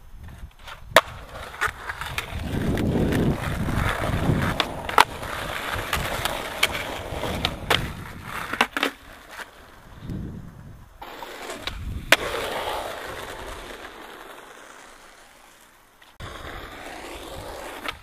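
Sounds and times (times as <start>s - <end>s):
skateboard wheels rolling on asphalt: 0.0s - 18.0s
skateboard tail clacks: 0.2s - 10.2s, 11.0s - 18.0s.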